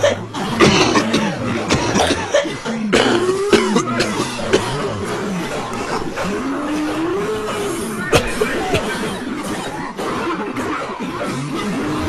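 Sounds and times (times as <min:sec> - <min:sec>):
crowd coughing: 0:00.0 - 0:12.0.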